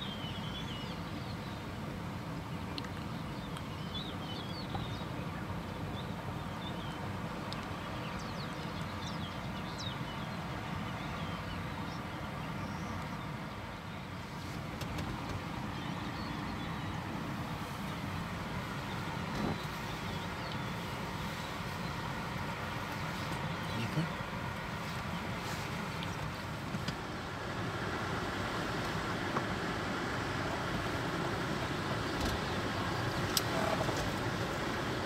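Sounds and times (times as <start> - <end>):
river rushing: 0.0 - 35.0
small birds chirping: 0.0 - 35.0.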